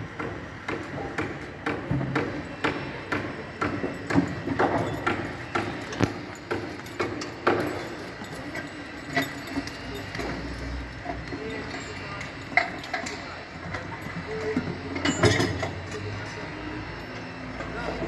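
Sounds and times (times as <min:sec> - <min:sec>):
construction knocks and clanks: 0:00.0 - 0:18.0.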